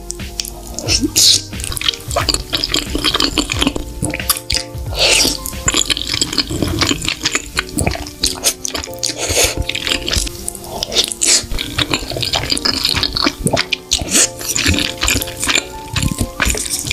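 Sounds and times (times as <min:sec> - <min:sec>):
background music: 0:00.0 - 0:16.9
slurping: 0:00.0 - 0:16.9
wet chewing of spaghetti: 0:00.0 - 0:16.9
wet mouth clicks: 0:00.0 - 0:16.9.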